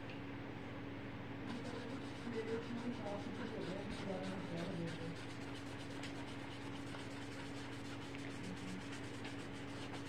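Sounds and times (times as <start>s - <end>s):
steady low hum: 0.0s - 10.0s
paintbrush rubbing on paper: 1.5s - 10.0s.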